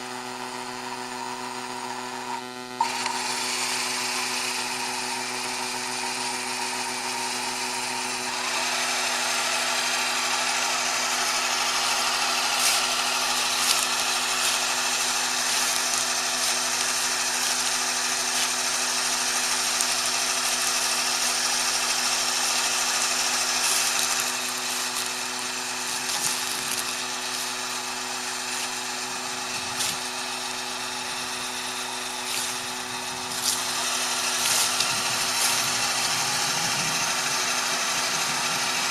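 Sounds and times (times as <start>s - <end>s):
tractor motor running: 0.0s - 38.9s.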